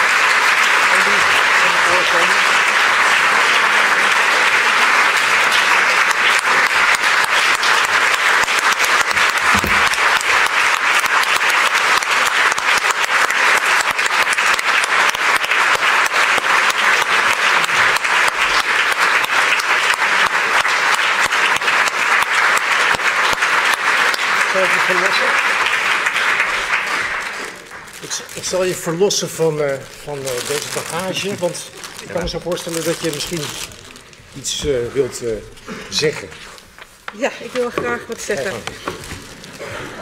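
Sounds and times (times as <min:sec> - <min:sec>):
audience applauding: 0:00.0 - 0:35.4.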